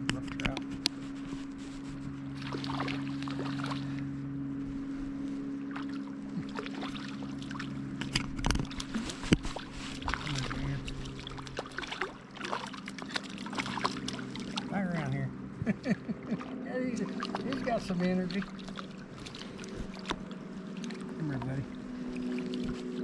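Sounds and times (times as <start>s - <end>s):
creek water running: 0.0s - 4.2s, 4.8s - 15.5s, 16.1s - 23.0s
steady low hum: 0.0s - 23.0s.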